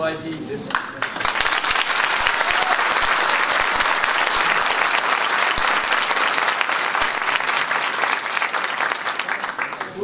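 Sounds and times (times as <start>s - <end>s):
audience applause: 0.7s - 10.0s.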